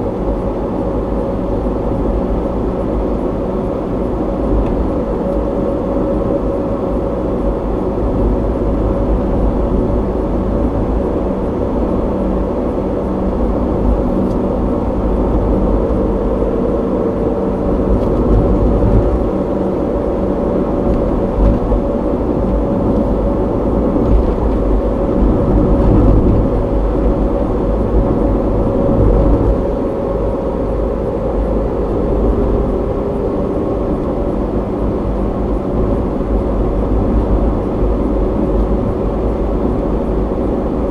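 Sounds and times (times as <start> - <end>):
car tyre and engine noise: 0.0 - 40.9.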